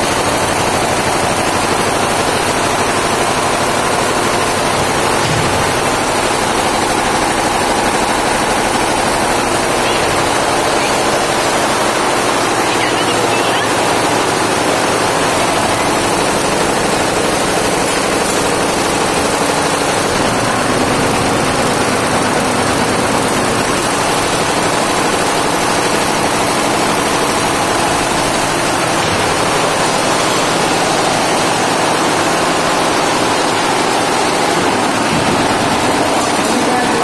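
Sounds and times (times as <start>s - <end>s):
embroidery machine stitching: 0.0s - 37.0s.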